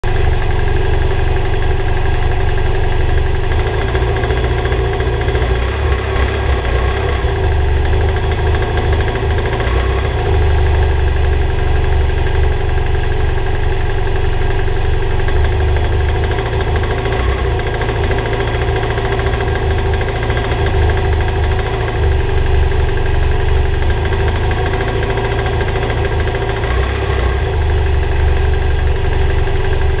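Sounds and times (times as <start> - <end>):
engine knocking: 0.0 - 30.0
motorcycle engine idling: 0.0 - 30.0.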